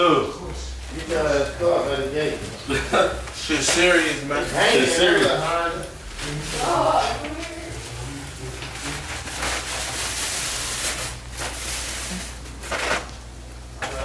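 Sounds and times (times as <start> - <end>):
plastic bags rustling: 0.8 - 14.0.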